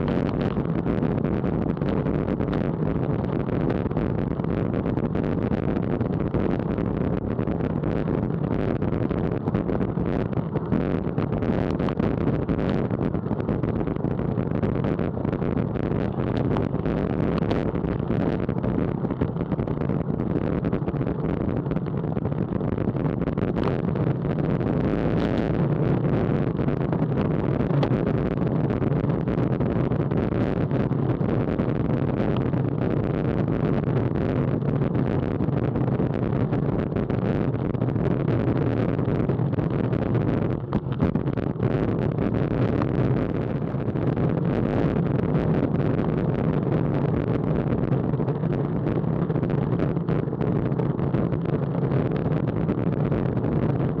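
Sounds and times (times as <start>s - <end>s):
rolling road noise: 0.0s - 34.0s, 34.6s - 44.7s
wind rush: 0.0s - 54.0s.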